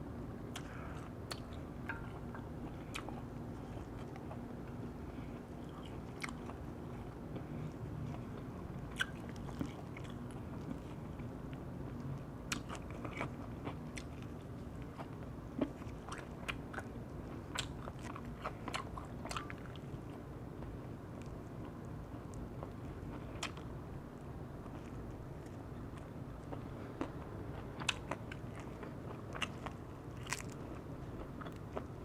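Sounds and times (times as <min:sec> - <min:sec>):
chewing crispy chicken: 0:00.5 - 0:32.0.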